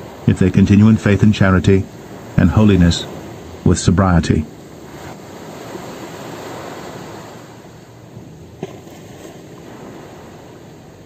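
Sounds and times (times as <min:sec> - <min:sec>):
ocean surf washing on shore: 0:00.0 - 0:11.0.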